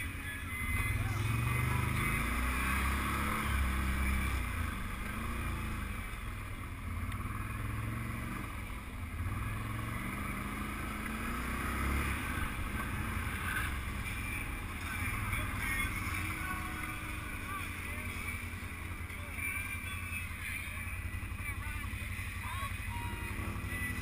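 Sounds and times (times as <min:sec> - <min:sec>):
quad bike engine revving: 0:00.6 - 0:24.0.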